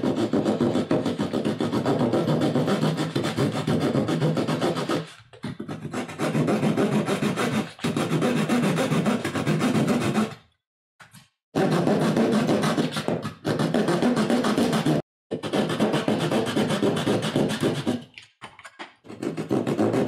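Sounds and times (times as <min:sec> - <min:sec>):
saw cutting wood: 0:00.0 - 0:10.4, 0:11.6 - 0:18.1.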